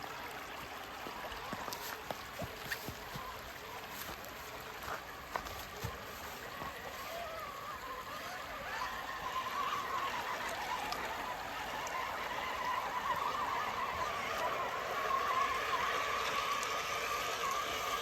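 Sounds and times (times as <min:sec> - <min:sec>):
water being churned: 0:00.0 - 0:18.0
toy truck electric motor whining: 0:02.7 - 0:18.0.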